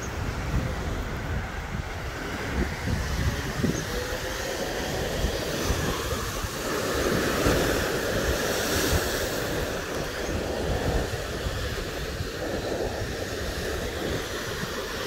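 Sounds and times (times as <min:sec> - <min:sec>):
surf on a beach: 0:00.0 - 0:15.0
wind buffeting microphone: 0:00.0 - 0:15.0.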